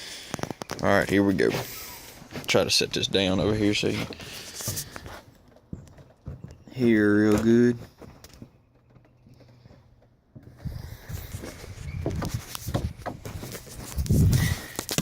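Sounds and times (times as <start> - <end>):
handling clicks and rustling: 0.3 - 15.0.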